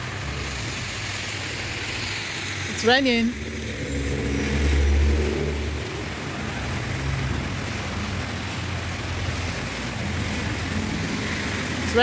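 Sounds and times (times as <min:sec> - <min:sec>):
rain on pavement: 0:00.0 - 0:12.0
road traffic hum: 0:00.0 - 0:12.0.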